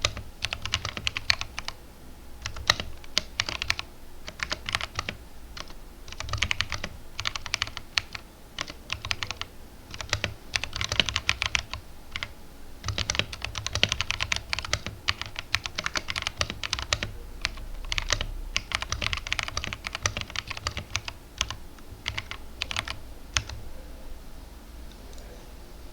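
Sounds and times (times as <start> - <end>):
mechanical keyboard typing: 0.0 - 1.8, 2.4 - 23.6.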